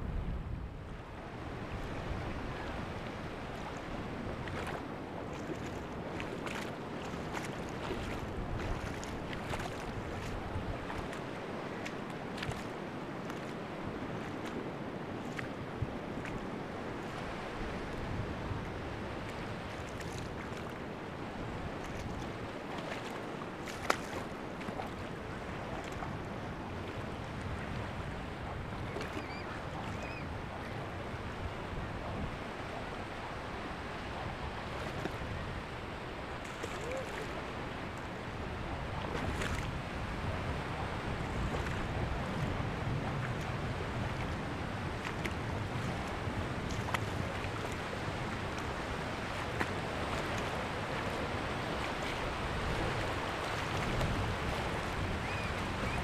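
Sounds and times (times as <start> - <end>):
surf washing on beach: 0.0 - 56.0.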